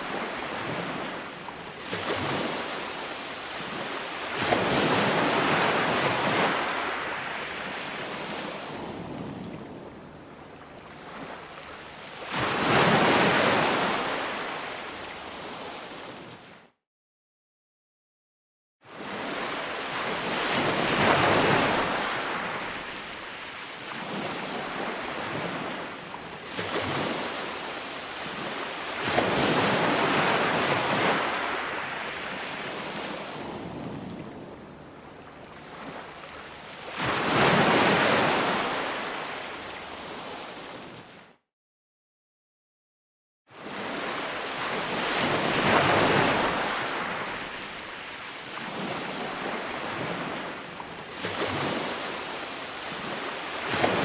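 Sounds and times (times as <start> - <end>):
ocean waves breaking: 0.0 - 16.6, 18.9 - 41.2, 43.6 - 54.0.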